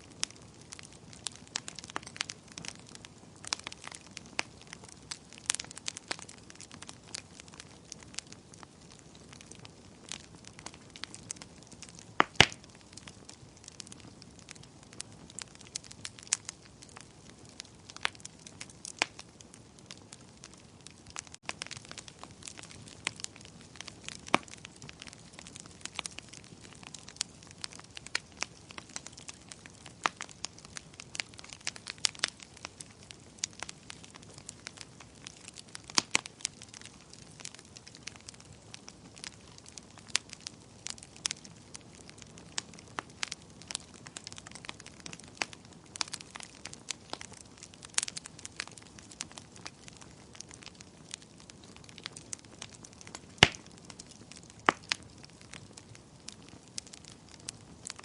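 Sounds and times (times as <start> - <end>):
fire crackling and popping: 0.0 - 58.0
soft steady hiss: 0.0 - 58.0.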